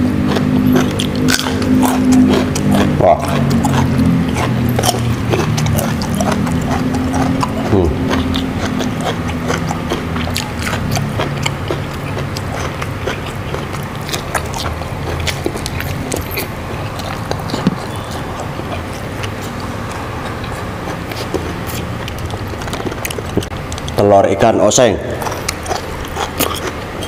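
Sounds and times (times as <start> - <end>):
person chewing and crunching food: 0.0 - 24.1, 25.1 - 27.0
low hum: 0.0 - 27.0
wet mouth clicks: 0.2 - 24.0, 25.2 - 27.0.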